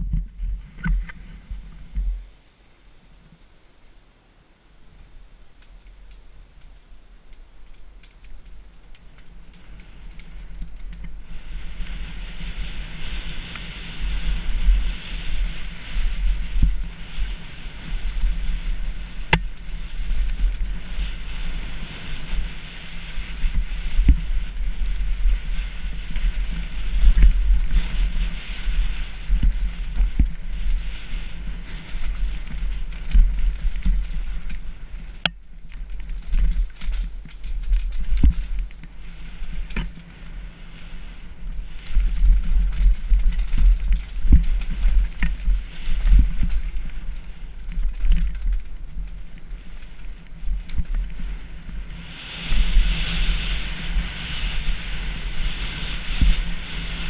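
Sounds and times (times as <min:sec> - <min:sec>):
wind rush on microphone: 0:00.0 - 0:02.4, 0:07.1 - 0:57.0
bike tyres rolling over dirt: 0:00.0 - 0:04.0, 0:04.8 - 0:57.0
bike rattling over bumps: 0:07.6 - 0:57.0.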